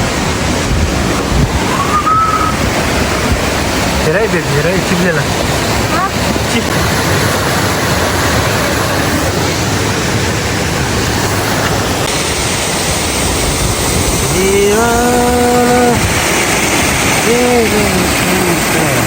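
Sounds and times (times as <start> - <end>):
roar of falling water: 0.0 - 19.0.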